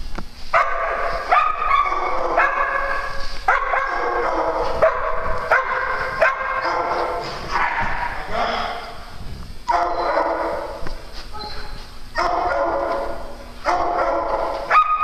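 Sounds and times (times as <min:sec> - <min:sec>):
small dogs barking and yipping: 0:00.6 - 0:08.3, 0:09.7 - 0:15.0.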